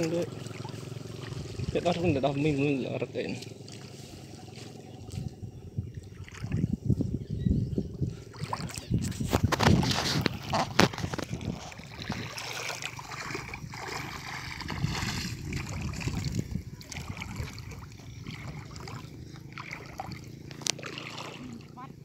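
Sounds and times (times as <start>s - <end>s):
legs wading through water: 0.0s - 6.9s, 7.8s - 22.0s.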